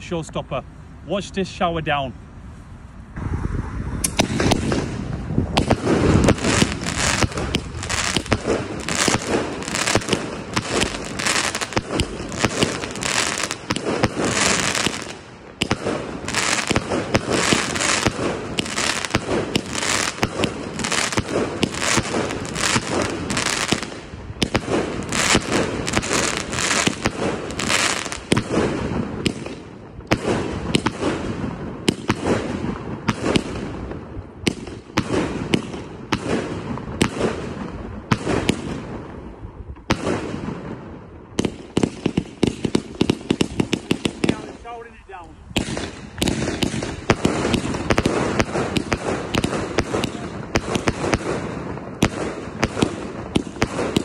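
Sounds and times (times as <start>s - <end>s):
firework barrage shots bursting: 4.1s - 44.9s, 45.5s - 54.0s.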